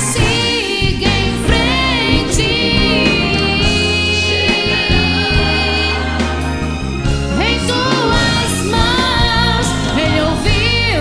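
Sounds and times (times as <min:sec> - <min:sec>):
band accompaniment with bass: 0:00.0 - 0:11.0.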